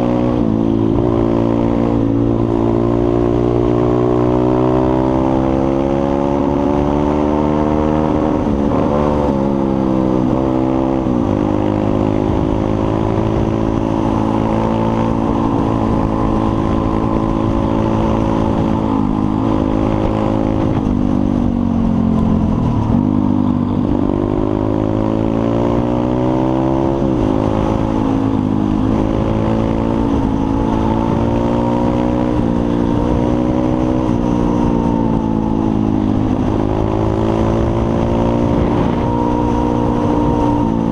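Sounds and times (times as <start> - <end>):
small motorbike engine revving: 0.0 - 21.0, 22.7 - 40.9.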